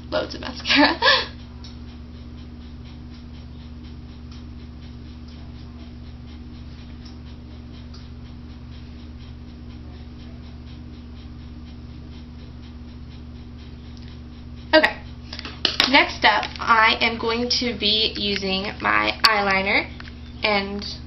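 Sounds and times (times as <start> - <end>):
low electrical hum: 0.0 - 21.0
rapid irregular ticking: 0.1 - 21.0.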